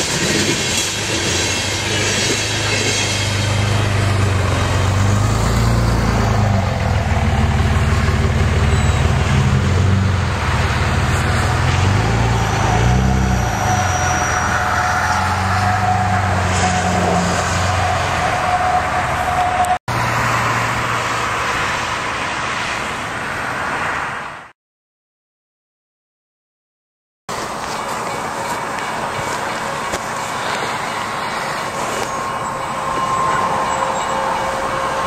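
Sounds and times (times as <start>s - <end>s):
traffic engines humming: 0.0s - 24.5s, 27.3s - 35.0s.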